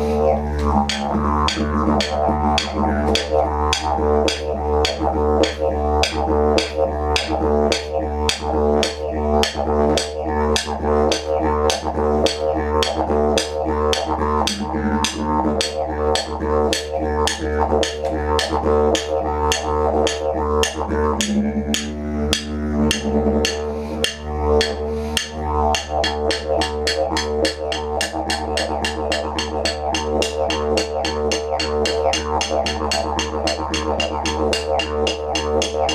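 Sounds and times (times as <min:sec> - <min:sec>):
didgeridoo drone: 0:00.0 - 0:35.9
percussive taps: 0:00.6 - 0:35.9.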